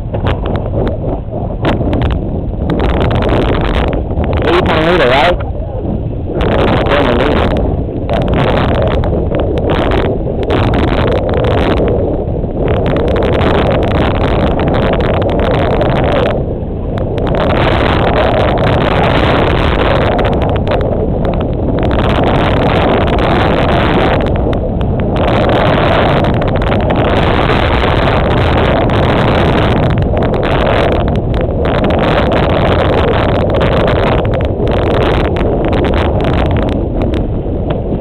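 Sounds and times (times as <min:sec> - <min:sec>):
boat engine running: 0:00.0 - 0:38.0
water rushing: 0:00.0 - 0:38.0.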